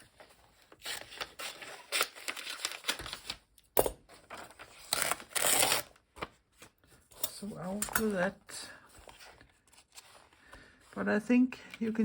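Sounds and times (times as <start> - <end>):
paper pages rustling: 0.0 - 8.2, 8.8 - 12.0.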